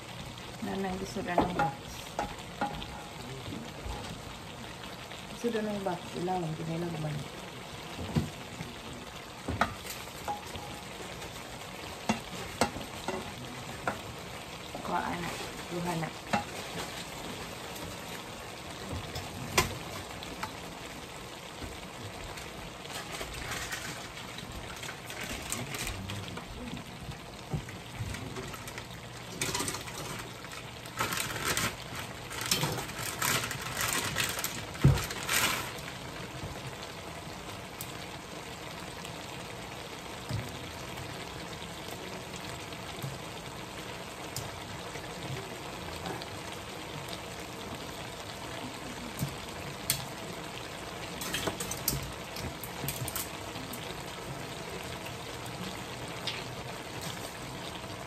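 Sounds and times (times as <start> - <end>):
meat sizzling in a frying pan: 0.0 - 58.0.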